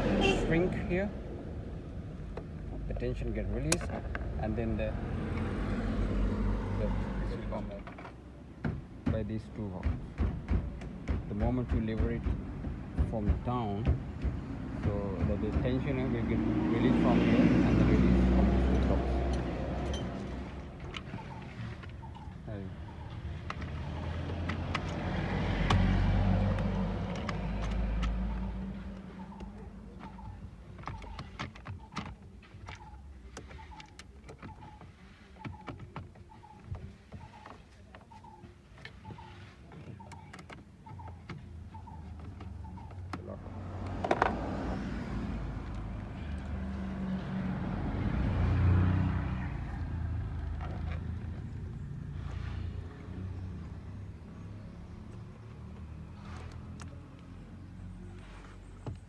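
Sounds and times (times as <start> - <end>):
vehicle engine rumble: 0.0 - 59.0.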